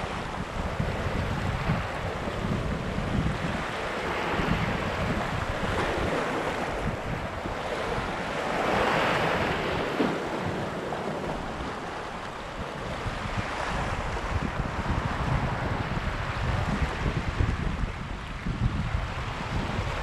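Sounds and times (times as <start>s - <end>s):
sea waves washing on shore: 0.0s - 20.0s
wind buffeting microphone: 0.0s - 20.0s.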